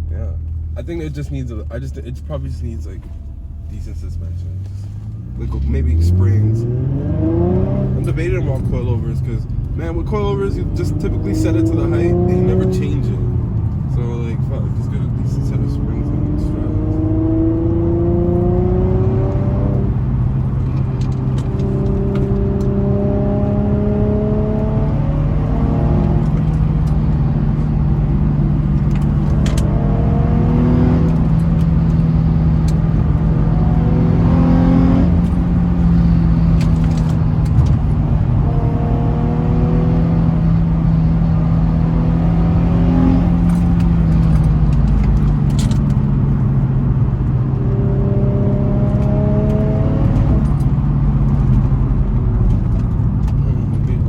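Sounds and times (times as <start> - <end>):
car engine revving while driving: 0.0 - 54.0.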